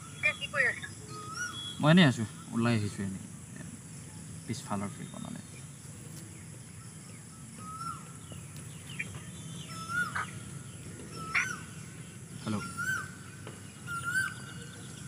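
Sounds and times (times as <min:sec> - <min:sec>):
bird chirping: 0:00.0 - 0:15.0
low steady background noise: 0:00.0 - 0:15.0.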